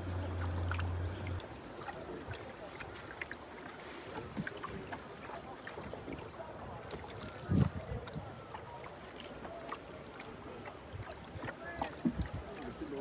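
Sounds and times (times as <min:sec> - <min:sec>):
water splashing around a boat: 0:00.0 - 0:13.0.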